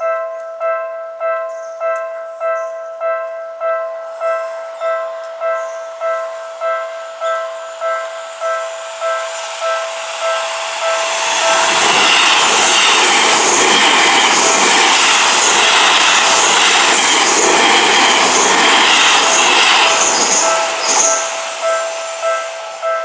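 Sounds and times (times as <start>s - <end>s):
level crossing warning bell: 0.0s - 23.0s
train passing: 0.0s - 23.0s.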